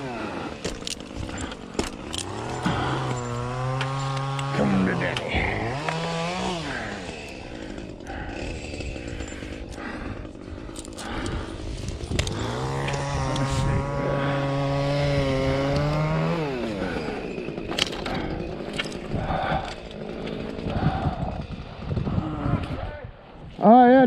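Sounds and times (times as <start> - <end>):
chainsaw revving: 0.0 - 22.8.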